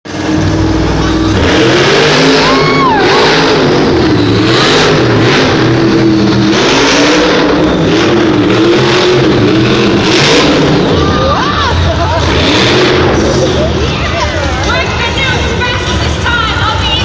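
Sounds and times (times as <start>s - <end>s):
truck engine revving loudly: 0.0s - 17.0s.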